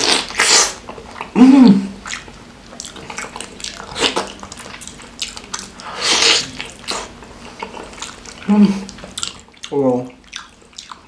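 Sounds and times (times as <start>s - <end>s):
wet chewing and mouth clicks: 2.0s - 11.0s.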